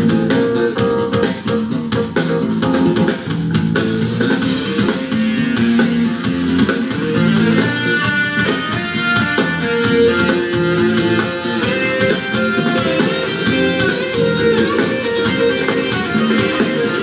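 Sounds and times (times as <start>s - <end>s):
bass guitar: 0.0s - 17.0s
drum kit: 0.0s - 17.0s
electric guitars: 0.0s - 17.0s.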